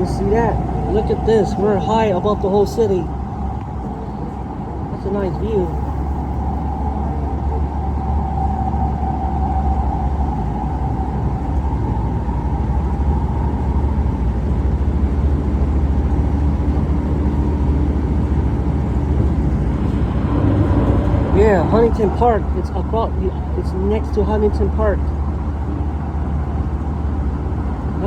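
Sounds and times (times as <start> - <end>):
train rumble from inside car: 0.0 - 28.0
train whine: 0.0 - 28.0.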